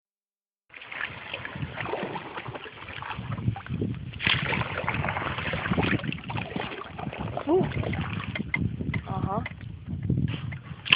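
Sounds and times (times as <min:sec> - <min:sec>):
water splashing around kayak: 0:00.7 - 0:10.9.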